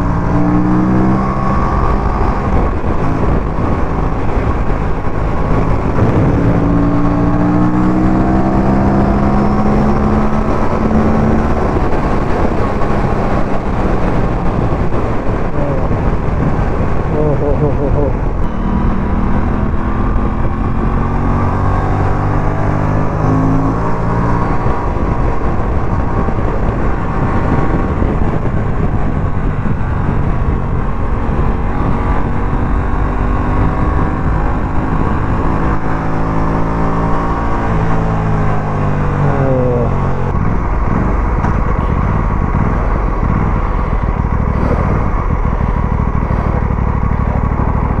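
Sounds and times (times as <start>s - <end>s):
motorcycle engine running: 0.0s - 48.0s
wind noise: 0.0s - 48.0s.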